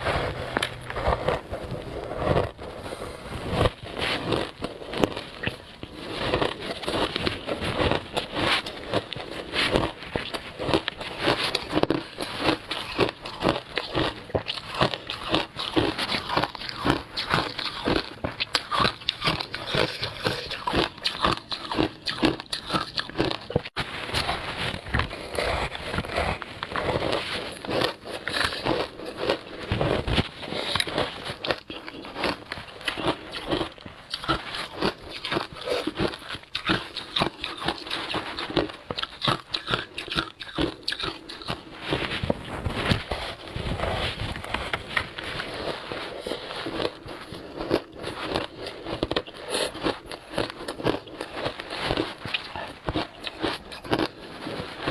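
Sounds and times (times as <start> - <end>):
crunching and chewing ice: 0.0 - 54.9.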